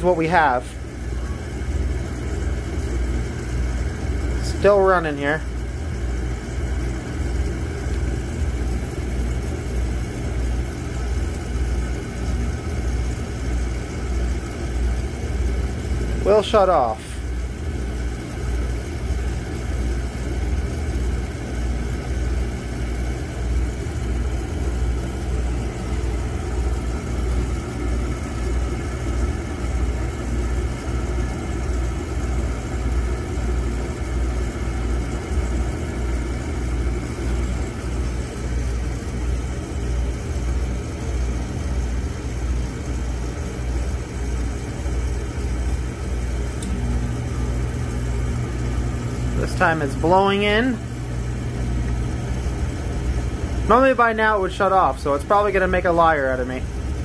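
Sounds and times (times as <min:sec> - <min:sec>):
furnace blower humming: 0:00.0 - 0:57.0
oil burner humming: 0:00.0 - 0:57.0.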